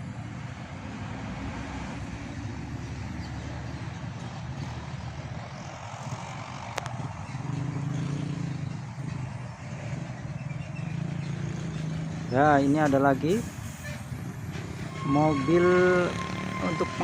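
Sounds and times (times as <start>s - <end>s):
heavy diesel traffic drone: 0.0s - 17.0s.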